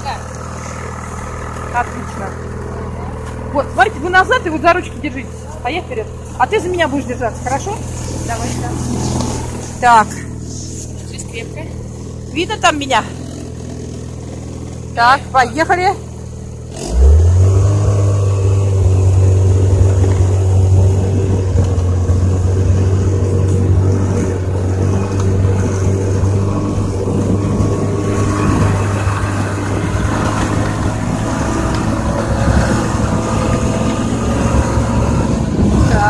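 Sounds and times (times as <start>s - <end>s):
snowmobile engine droning: 0.0s - 36.0s.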